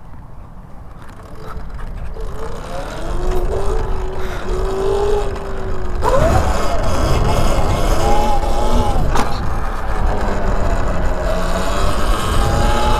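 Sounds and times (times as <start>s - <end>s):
motorbike engine revving: 0.9s - 12.9s.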